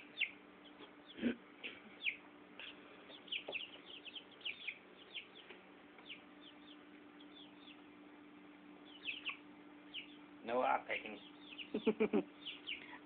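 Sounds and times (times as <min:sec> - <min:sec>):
chick peeping: 0:00.0 - 0:13.0.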